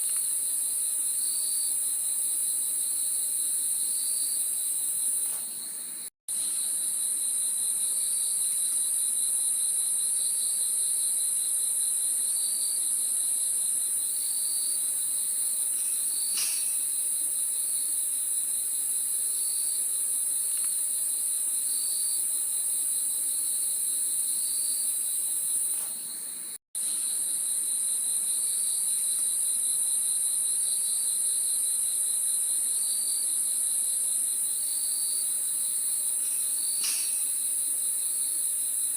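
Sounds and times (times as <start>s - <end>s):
crickets trilling: 0.0s - 38.9s
low cricket chirp: 0.0s - 38.9s.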